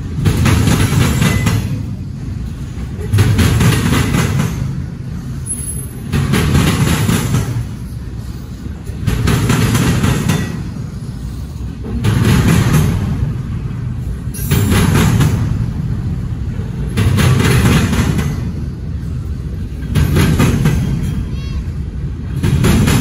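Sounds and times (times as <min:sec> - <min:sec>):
clattering train wheels: 0:00.0 - 0:23.0
freight train rumble: 0:00.0 - 0:23.0.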